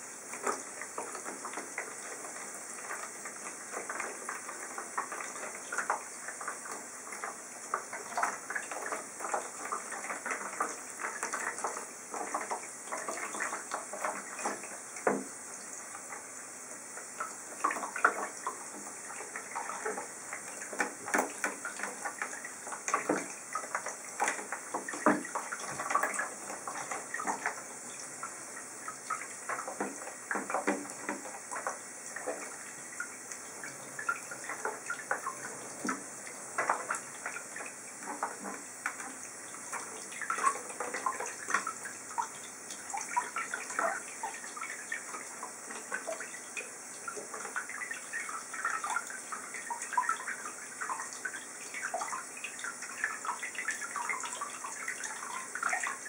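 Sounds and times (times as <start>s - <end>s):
water splashing in a plastic tub: 0.0s - 56.0s.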